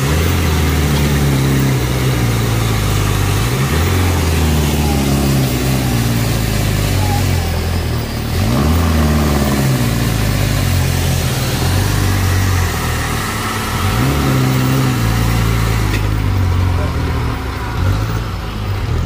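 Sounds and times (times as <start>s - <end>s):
truck diesel engine revving: 0.0s - 19.0s.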